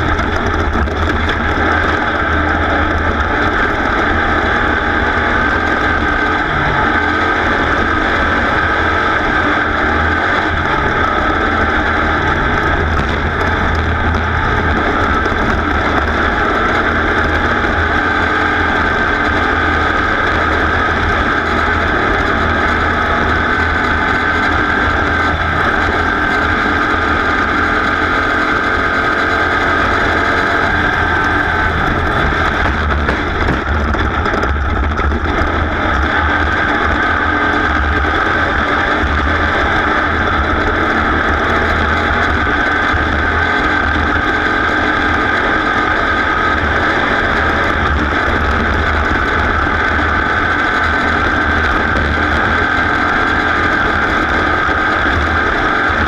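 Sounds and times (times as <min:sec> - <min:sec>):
race engine droning: 0:00.0 - 0:56.0.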